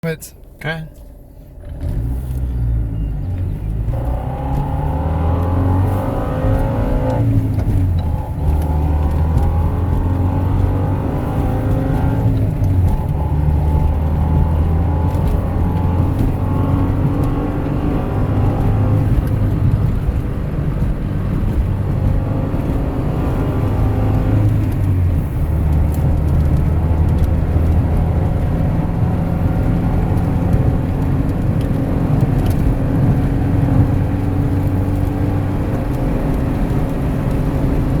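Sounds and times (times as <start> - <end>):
car engine and gearbox running: 0.0 - 38.0.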